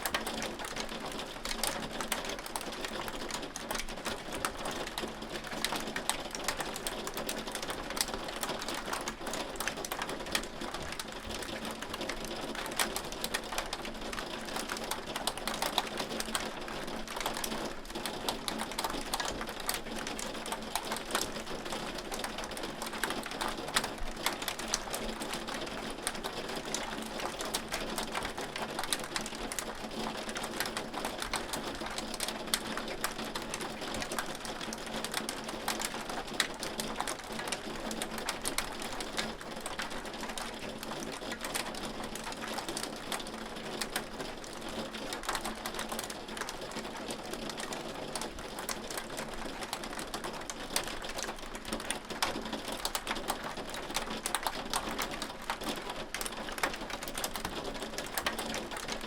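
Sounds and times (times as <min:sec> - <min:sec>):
hail clicking on a hard surface: 0:00.0 - 0:59.0.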